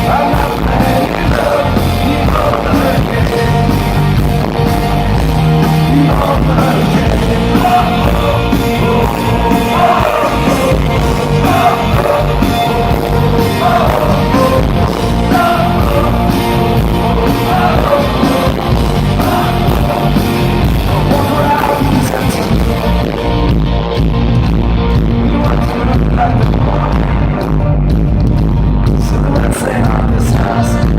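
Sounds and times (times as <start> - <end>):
man singing lead vocal: 0.0 - 23.5, 25.0 - 30.9
live rock band playing: 0.0 - 30.9.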